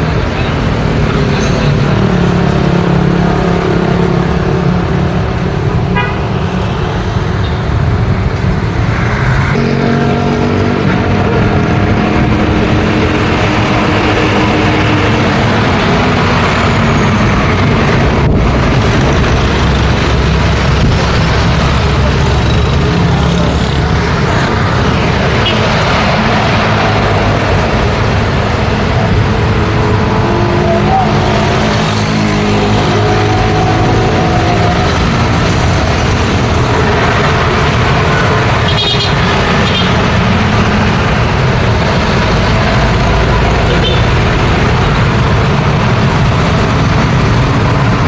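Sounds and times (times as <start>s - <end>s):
car engines passing: 0.0s - 48.0s
heavy truck rumbling past: 0.0s - 48.0s
motorbike engines passing: 0.0s - 48.0s.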